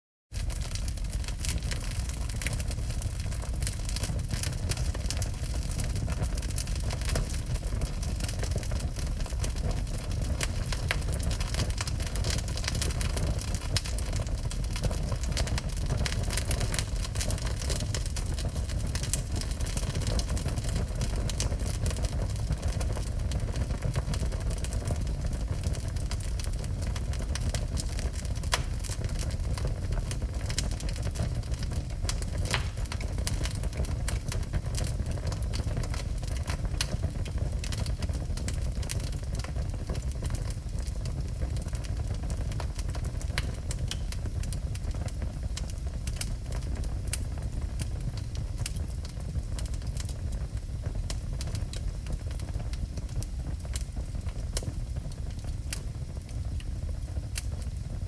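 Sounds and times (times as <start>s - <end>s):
fire crackles and pops: 0.3s - 58.0s
fire low rumble: 0.3s - 58.0s.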